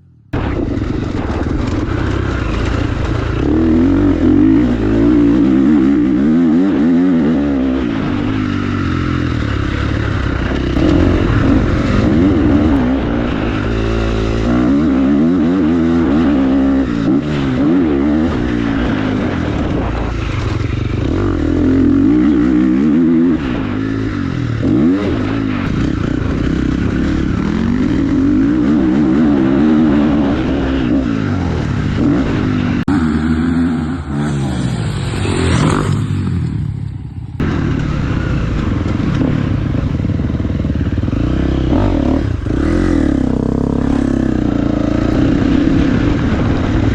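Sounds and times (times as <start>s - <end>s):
dirt bike engine revving: 0.4s - 46.9s.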